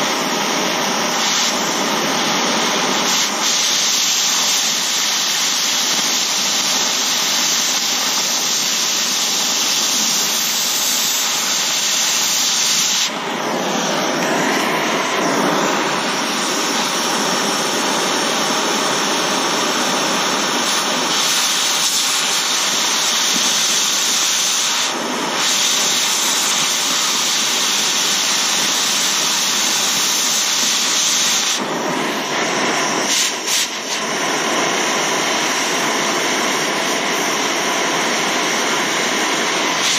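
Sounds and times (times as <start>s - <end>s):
cutting torch roaring hiss: 0.0s - 39.9s.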